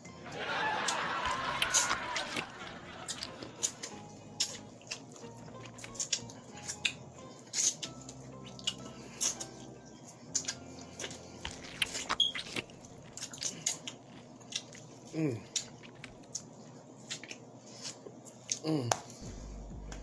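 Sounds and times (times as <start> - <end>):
person chewing corn on the cob: 1.2 - 9.6, 10.2 - 18.7.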